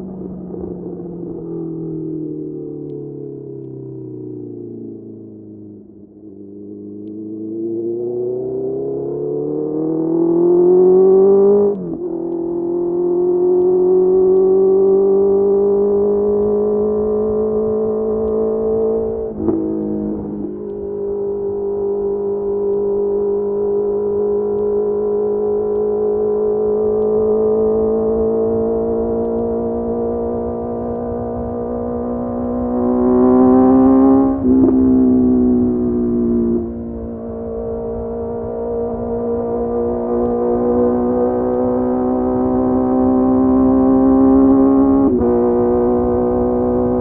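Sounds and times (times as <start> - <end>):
motorcycle engine revving: 5.5 - 47.0.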